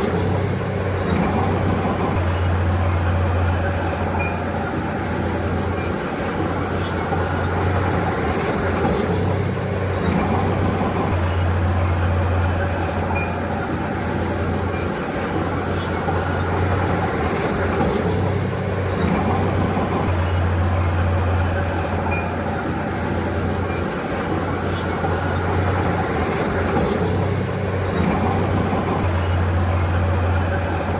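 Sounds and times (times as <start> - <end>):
heavy diesel machinery engine hum: 0.0 - 30.9.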